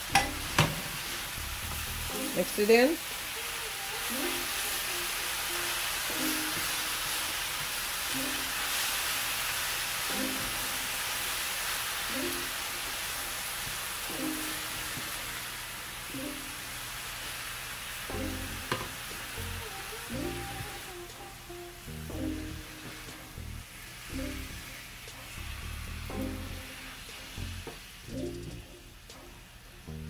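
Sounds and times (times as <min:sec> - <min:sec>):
vegetables sizzling in a hot pan: 0:00.0 - 0:30.0
soft background music: 0:00.1 - 0:17.4, 0:18.1 - 0:30.0.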